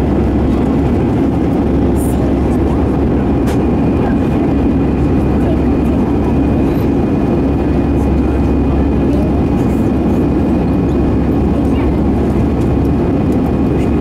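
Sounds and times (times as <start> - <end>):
jet engine cabin drone: 0.0 - 14.0.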